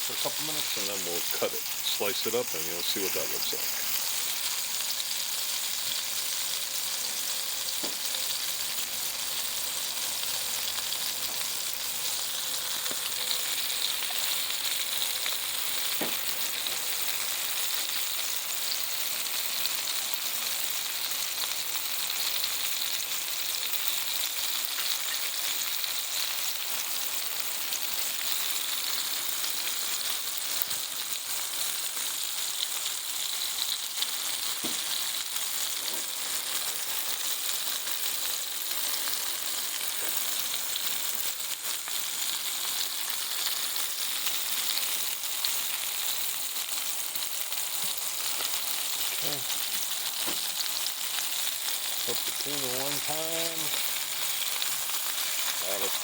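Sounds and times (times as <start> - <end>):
fish frying in grease: 0.0 - 56.0.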